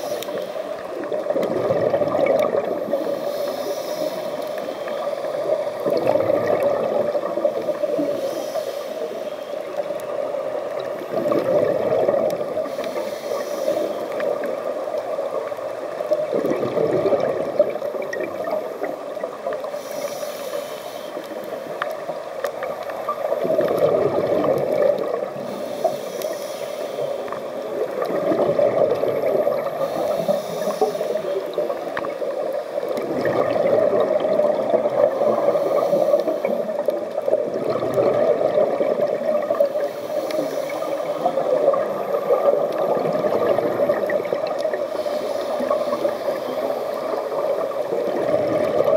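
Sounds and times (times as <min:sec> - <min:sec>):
regulator hiss on inhale: 0:00.0 - 0:01.2, 0:02.4 - 0:06.0, 0:07.1 - 0:16.2, 0:17.6 - 0:23.8, 0:24.5 - 0:28.2, 0:28.9 - 0:33.1, 0:35.1 - 0:37.5, 0:39.3 - 0:43.2, 0:43.8 - 0:48.8
exhaled bubbles gurgling: 0:00.0 - 0:48.9.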